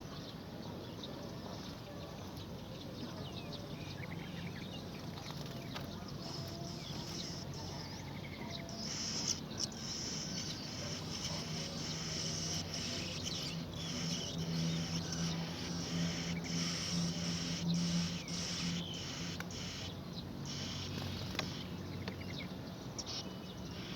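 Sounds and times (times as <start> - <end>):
steady low hum: 1.4 - 23.9
nestlings begging calls: 3.4 - 23.9.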